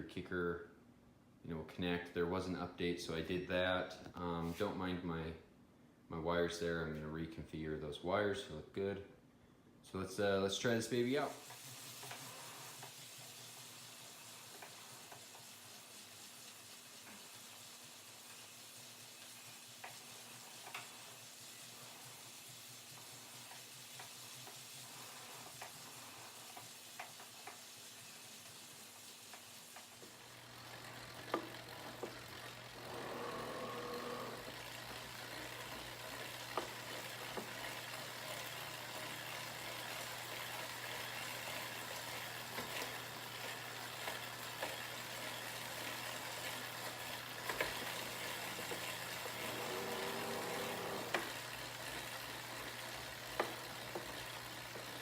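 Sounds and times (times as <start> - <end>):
smart trainer humming and hissing: 9.9 - 55.0.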